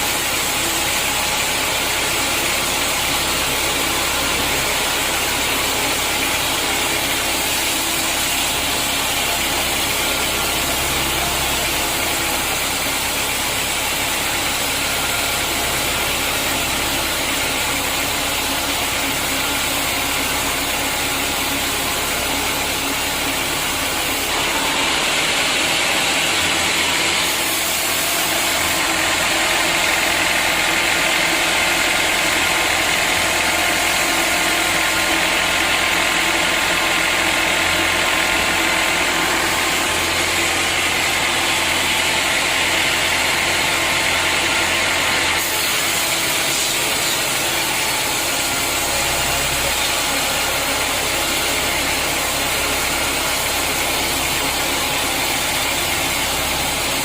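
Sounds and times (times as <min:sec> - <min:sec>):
sawmill saw hiss and whine: 0:00.0 - 0:57.0.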